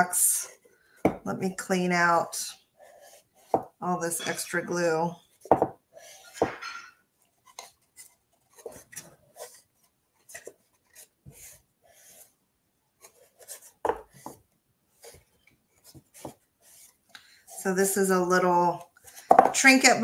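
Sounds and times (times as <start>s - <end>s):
rubbing and scraping on wood: 1.7s - 20.0s.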